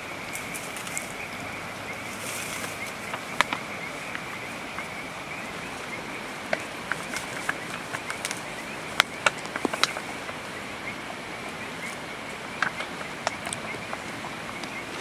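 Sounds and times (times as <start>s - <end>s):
high pulsing insect chirr: 0.0s - 15.0s
steady rain hiss: 0.0s - 15.0s
sharp ticks and drips: 0.2s - 15.0s.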